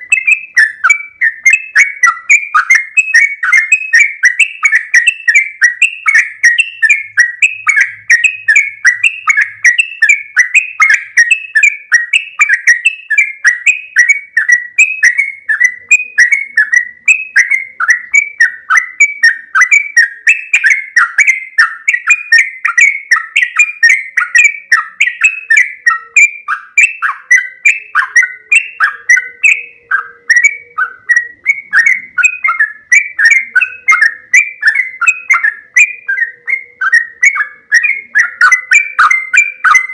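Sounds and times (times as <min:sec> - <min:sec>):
bird singing short chirping notes: 0:00.0 - 0:39.9.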